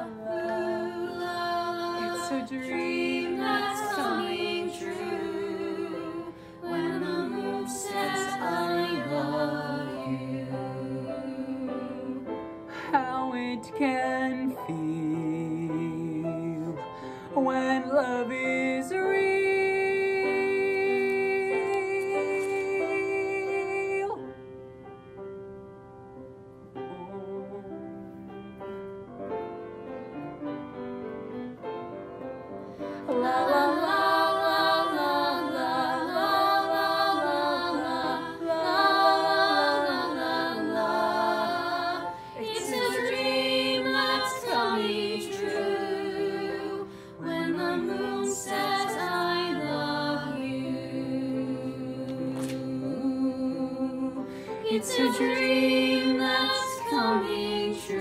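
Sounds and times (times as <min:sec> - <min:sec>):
group of voices singing in harmony: 0:00.0 - 0:24.3, 0:32.7 - 0:58.0.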